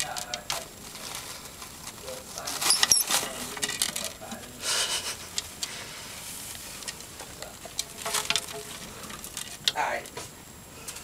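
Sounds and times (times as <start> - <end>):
mice scuffling on paper bedding: 0.0 - 4.6, 5.3 - 9.8.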